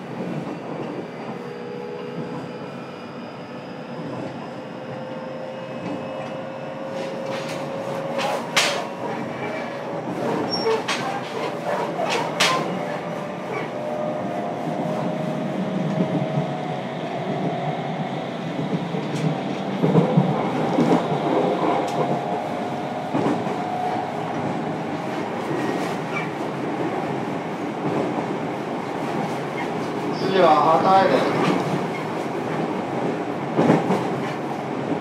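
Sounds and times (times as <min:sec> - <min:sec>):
train wheel and rail noise: 0:00.0 - 0:35.0.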